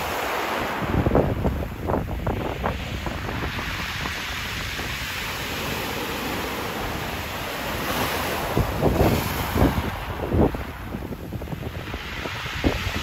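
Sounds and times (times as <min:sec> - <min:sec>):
waves washing over pebbles: 0:00.0 - 0:13.0
wind buffeting microphone: 0:00.0 - 0:13.0.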